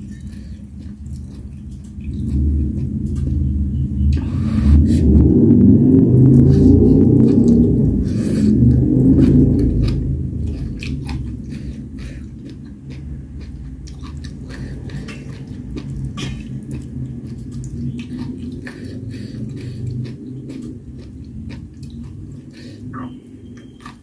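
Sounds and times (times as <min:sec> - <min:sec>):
person chewing and biting food: 0:00.0 - 0:03.4, 0:06.2 - 0:24.0
steady low rumble: 0:00.0 - 0:24.0.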